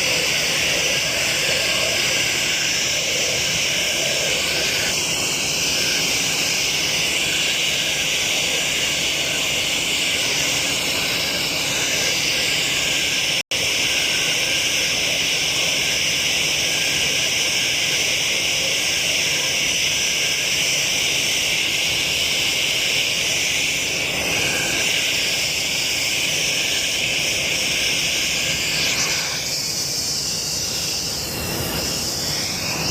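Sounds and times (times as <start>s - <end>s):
jet engine rushing noise: 0.0s - 18.3s, 19.6s - 32.9s
jet engine whine: 0.0s - 32.9s.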